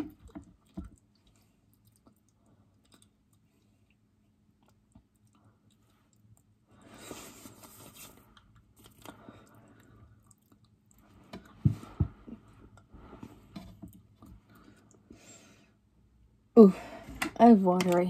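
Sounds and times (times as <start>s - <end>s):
person chewing food: 0.0s - 15.1s.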